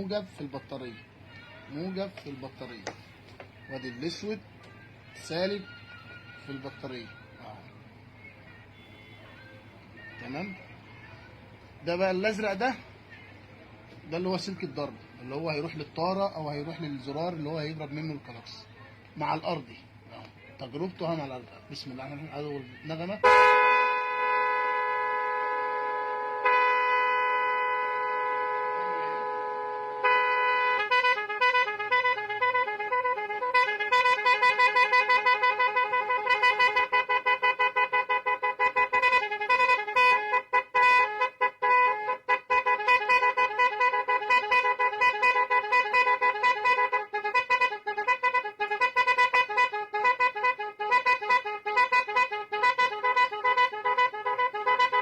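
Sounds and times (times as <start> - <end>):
musical car horn melodies: 0.0 - 10.7, 20.9 - 55.0.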